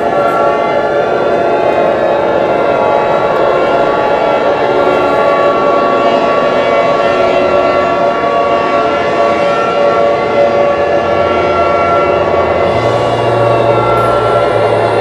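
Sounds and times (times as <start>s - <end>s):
siren-like held tones: 0.0s - 15.0s.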